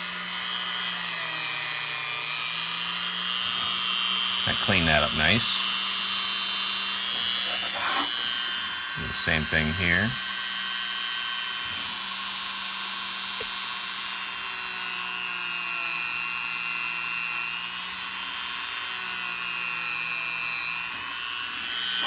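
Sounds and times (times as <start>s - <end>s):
rotary tool grinding metal: 0.0s - 22.0s.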